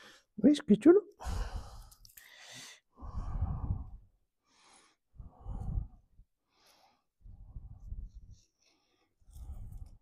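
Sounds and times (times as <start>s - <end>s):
person breathing heavily: 1.2s - 10.0s.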